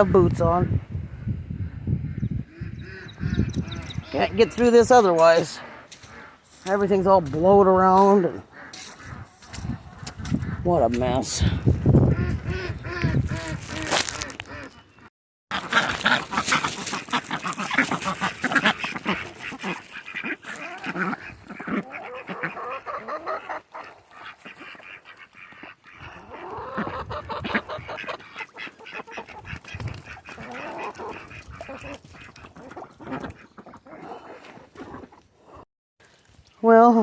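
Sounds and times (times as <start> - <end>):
ducks quacking and honking: 1.6 - 35.6.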